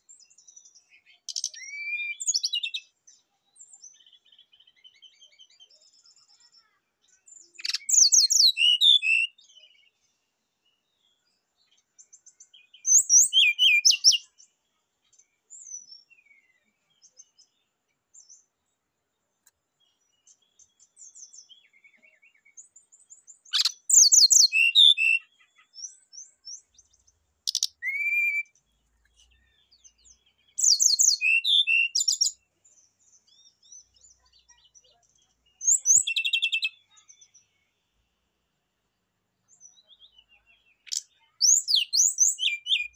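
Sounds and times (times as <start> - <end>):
faint bird chirps: 0.0 - 42.9.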